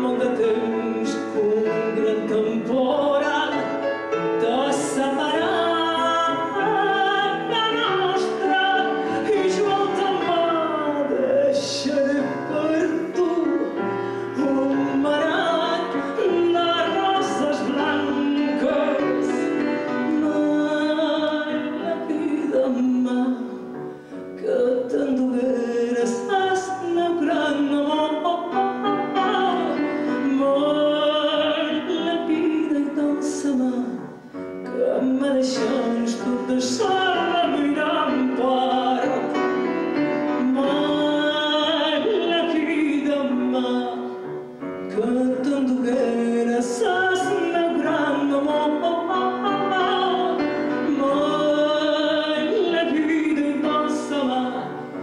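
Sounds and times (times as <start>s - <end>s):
piano accompaniment: 0.0s - 55.0s
woman singing: 0.0s - 55.0s.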